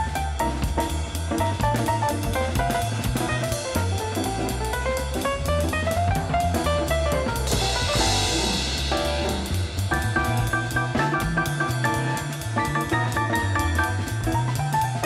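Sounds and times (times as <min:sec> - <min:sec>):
bass line: 0:00.0 - 0:15.0
drums: 0:00.0 - 0:15.0
plucked melody: 0:01.5 - 0:15.0.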